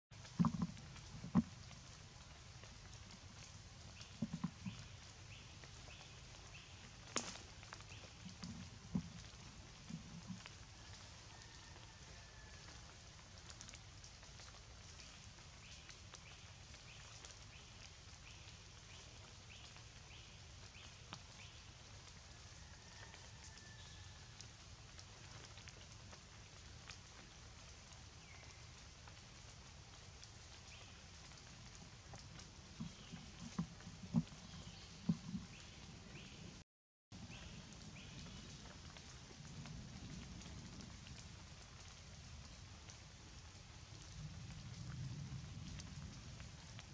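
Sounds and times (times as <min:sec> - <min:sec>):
soft steady hiss: 0:00.2 - 0:36.6, 0:37.2 - 0:46.9.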